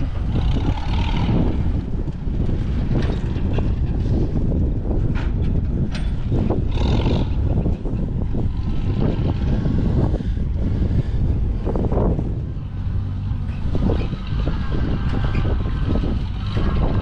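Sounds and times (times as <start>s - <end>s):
tractor engine running: 0.0s - 17.0s
wind buffeting microphone: 0.0s - 17.0s.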